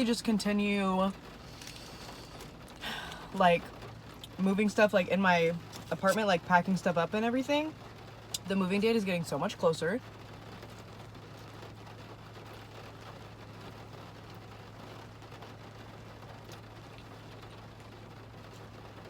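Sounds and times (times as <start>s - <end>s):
rain pattering on a car: 0.0s - 19.0s.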